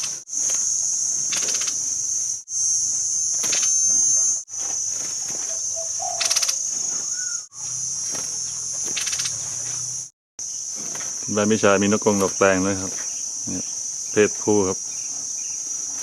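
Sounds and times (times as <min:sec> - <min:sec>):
insects buzzing: 0:00.0 - 0:16.0
short rattling trills: 0:00.0 - 0:16.0.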